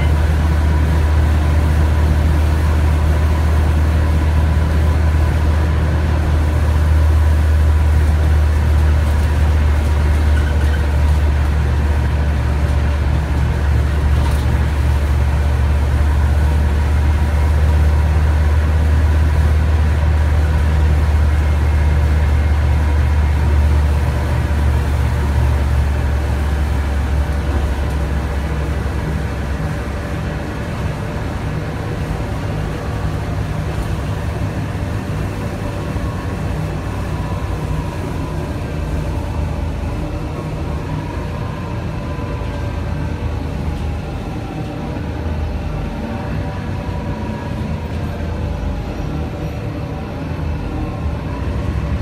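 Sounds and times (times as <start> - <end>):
bus engine drone: 0.0 - 52.0.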